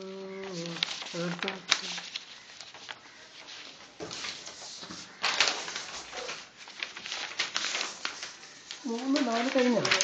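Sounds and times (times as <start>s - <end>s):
rustling handling noise: 0.0s - 10.0s.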